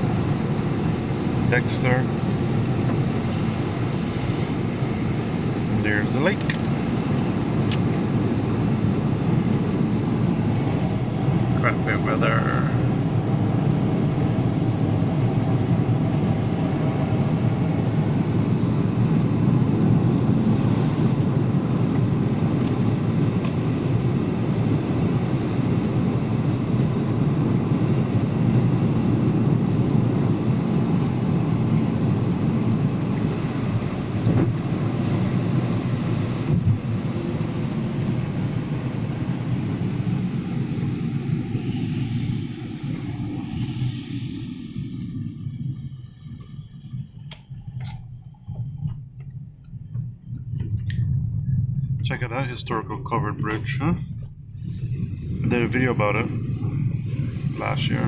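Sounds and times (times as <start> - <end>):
road and engine rumble in vehicle: 0.0 - 58.0.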